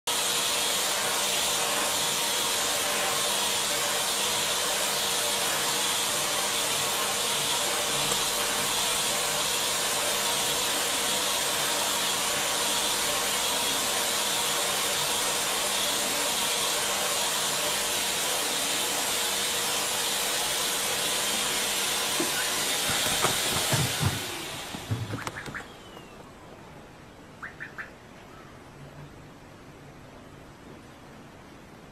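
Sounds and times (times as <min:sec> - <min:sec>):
vacuum cleaner suction hiss: 0:00.1 - 0:26.1
faint motor hum: 0:00.1 - 0:31.9.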